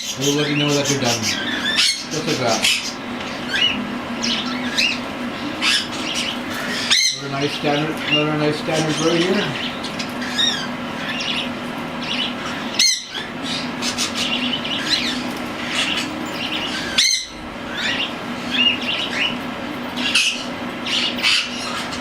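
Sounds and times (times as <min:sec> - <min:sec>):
cockatiels chirping and calling: 0:00.0 - 0:22.0
steady low hum: 0:00.0 - 0:22.0.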